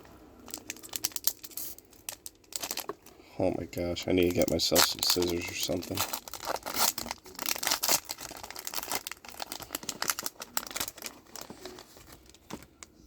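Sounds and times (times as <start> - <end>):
foil wrapper crinkling and tearing: 0.4 - 13.0.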